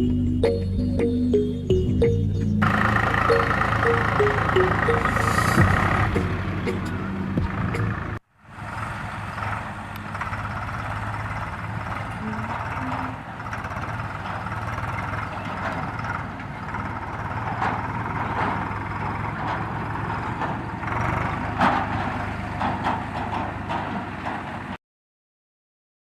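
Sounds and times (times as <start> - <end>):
tractor engine running: 0.0 - 24.8.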